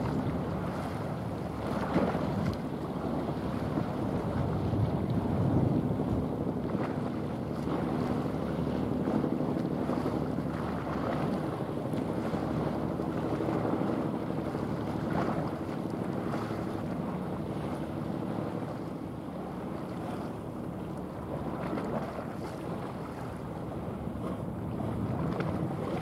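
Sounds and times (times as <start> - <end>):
bow wave wash: 0.0 - 26.0
ship engine rumble: 0.0 - 26.0
wind buffeting microphone: 0.0 - 26.0.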